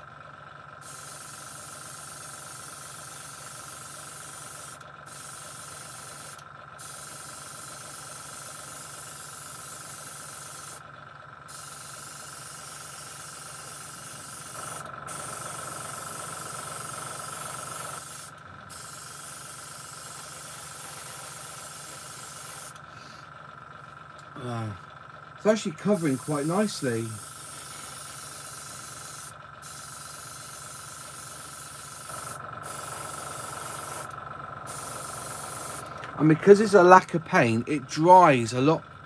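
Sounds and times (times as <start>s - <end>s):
airbrush spraying hiss: 0.8s - 10.8s, 11.5s - 23.1s, 25.5s - 35.9s.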